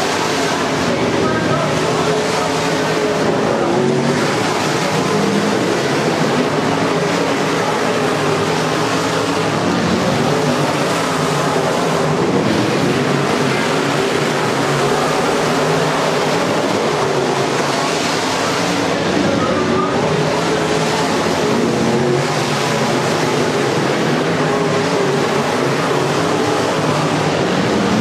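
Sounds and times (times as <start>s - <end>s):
race car engines running hard: 0.0s - 28.0s.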